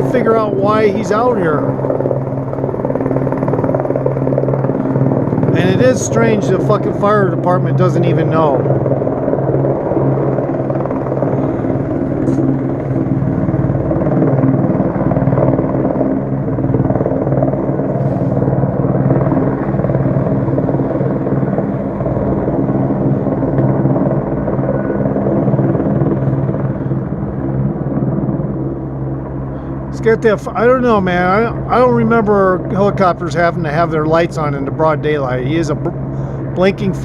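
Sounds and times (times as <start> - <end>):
helicopter hovering: 0.0 - 37.0.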